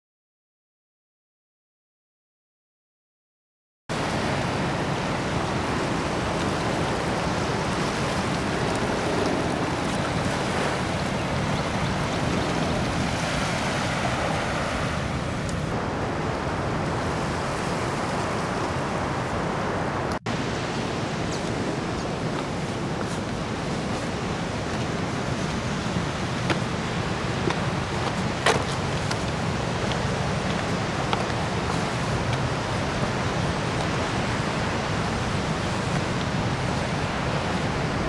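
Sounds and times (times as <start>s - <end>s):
ocean surf on rocky shore: 3.9s - 38.0s.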